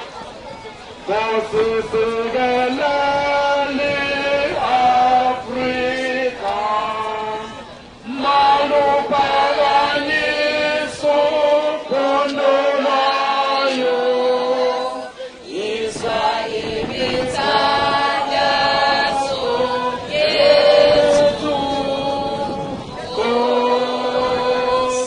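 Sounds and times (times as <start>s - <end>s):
crowd singing a chant: 1.0s - 25.0s.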